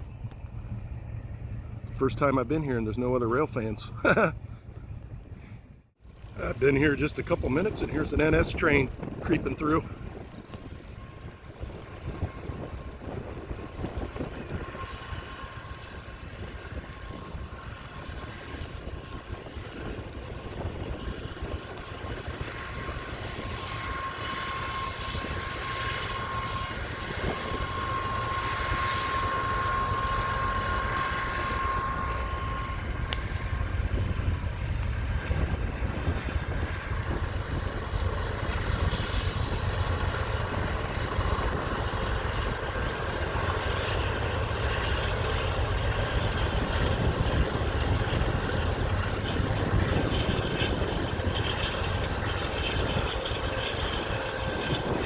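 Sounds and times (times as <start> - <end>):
freight train diesel rumble: 0.0 - 55.0.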